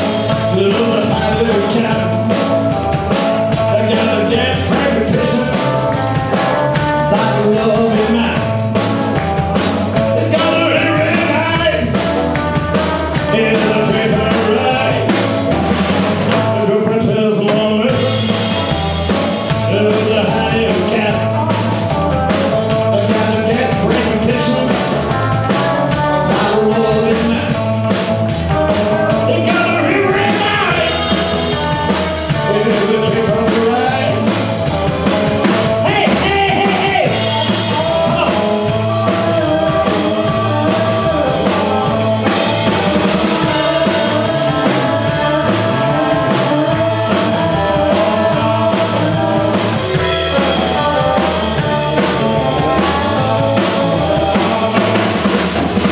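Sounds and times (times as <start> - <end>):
man singing: 0.0 - 55.9
rock band playing: 0.0 - 55.9.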